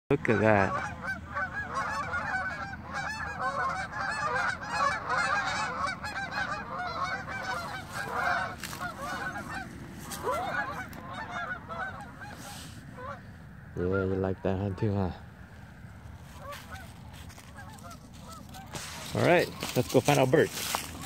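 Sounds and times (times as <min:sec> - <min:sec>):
geese honking in flight: 0:00.1 - 0:21.0.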